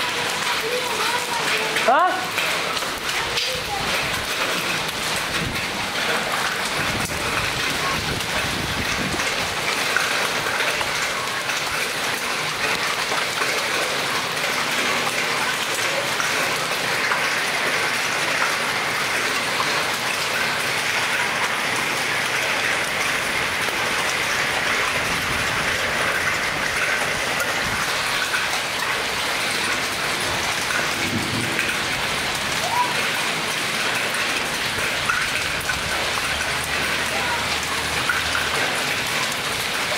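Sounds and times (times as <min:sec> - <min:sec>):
hail and heavy rain pattering: 0:00.0 - 0:39.9.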